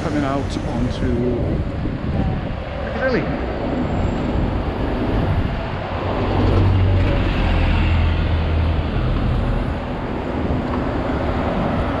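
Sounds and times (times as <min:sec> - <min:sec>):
bus engine humming: 0:00.0 - 0:12.0
road traffic: 0:00.0 - 0:12.0.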